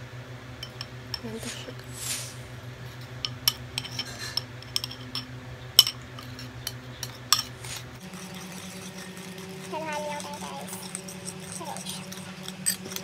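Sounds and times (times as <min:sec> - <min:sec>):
metal spoon clinking against bowl: 0:00.6 - 0:01.3, 0:03.2 - 0:13.0.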